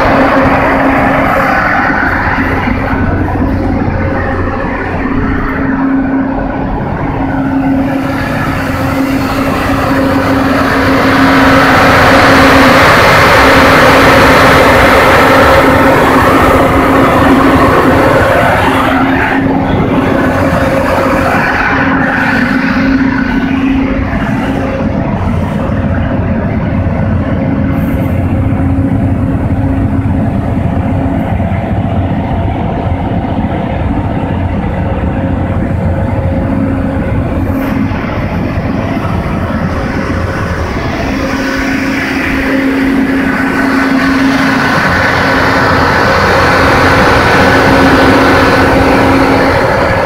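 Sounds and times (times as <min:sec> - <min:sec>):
diesel generator running: 0:00.0 - 0:50.0.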